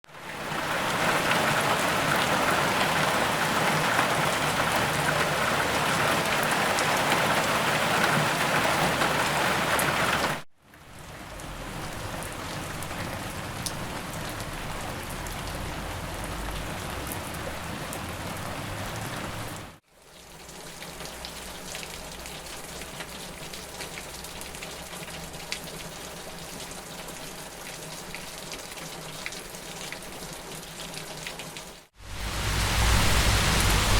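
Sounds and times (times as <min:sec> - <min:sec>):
heavy rain falling: 0:00.1 - 0:19.8, 0:20.5 - 0:33.9.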